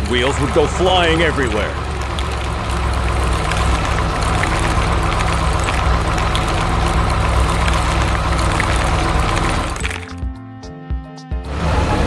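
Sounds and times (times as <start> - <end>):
road roller engine rumbling: 0.0 - 10.2, 11.5 - 12.0.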